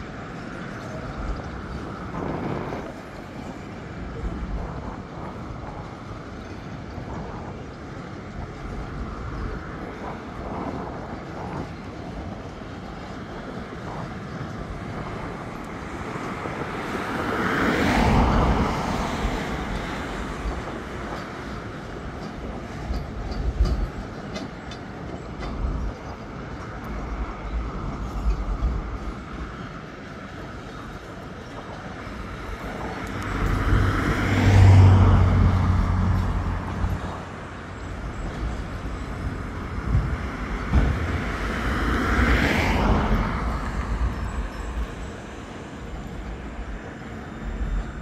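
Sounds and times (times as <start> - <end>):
freight wagons rolling on rails: 0.0 - 48.0
wheels clicking over rail joints: 0.0 - 48.0.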